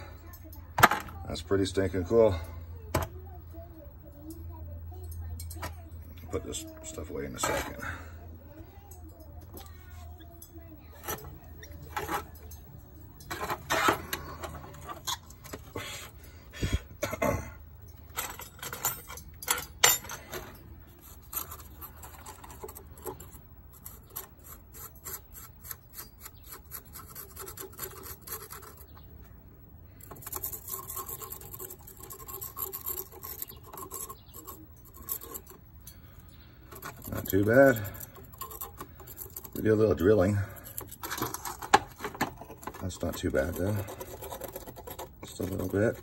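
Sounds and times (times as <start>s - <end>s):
metal tools clicking on metal: 4.2s - 8.0s, 8.7s - 15.9s, 17.8s - 29.1s, 29.9s - 46.0s
metal tool scraping: 5.4s - 8.2s, 9.5s - 29.3s, 29.9s - 46.0s.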